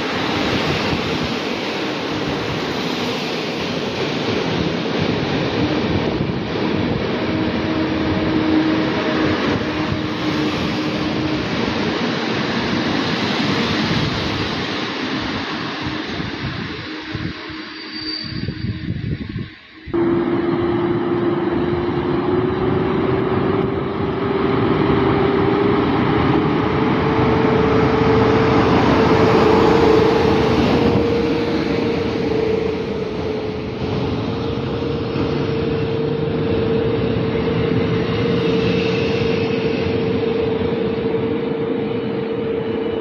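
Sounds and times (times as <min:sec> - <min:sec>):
locomotive whine: 0:00.0 - 0:43.0
train wheels on rails: 0:00.0 - 0:43.0.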